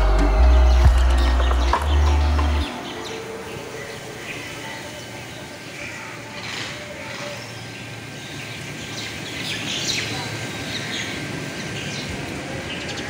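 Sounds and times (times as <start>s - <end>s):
birds chirping: 0.0s - 13.0s
outdoor background hiss: 0.0s - 13.0s.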